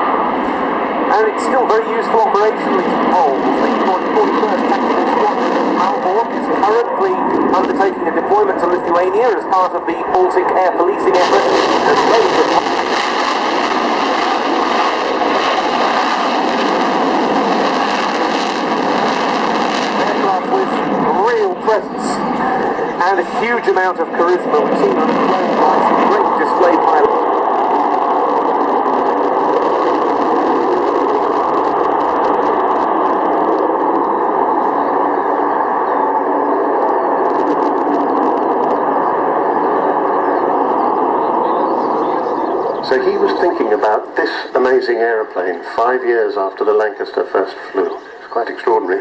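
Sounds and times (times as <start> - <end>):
faint whine tones: 0.0 - 49.0
jet engine rushing: 0.0 - 49.0.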